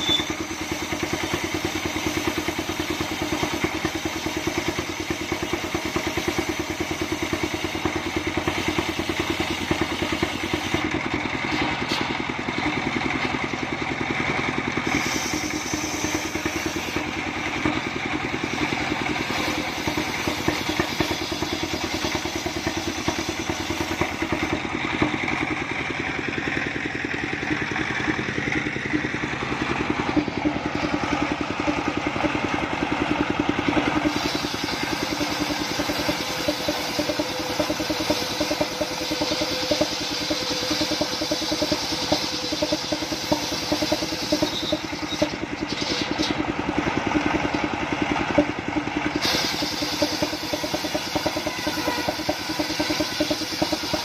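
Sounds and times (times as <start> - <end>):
diesel engine chugging: 0.0 - 54.0
saw blade whine: 0.0 - 54.0.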